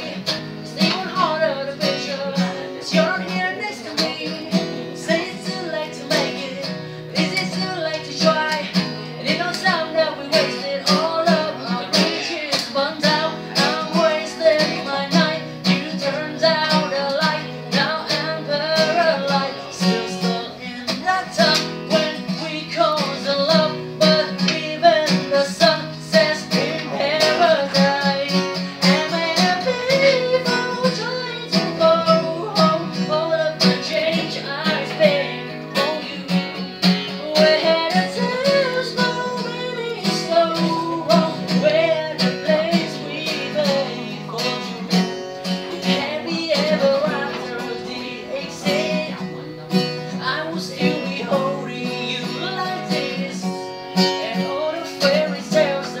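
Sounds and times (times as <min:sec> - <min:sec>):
acoustic guitar strumming: 0:00.0 - 0:56.0
person singing: 0:00.0 - 0:56.0.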